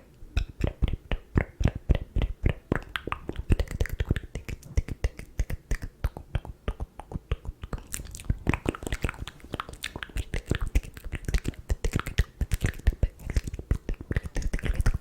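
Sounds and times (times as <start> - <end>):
wet mouth clicks and pops: 0.3 - 15.0.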